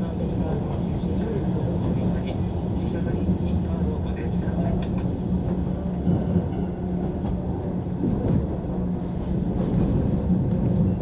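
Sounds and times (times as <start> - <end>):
train hum: 0.0 - 11.0
train running rumble: 0.0 - 11.0.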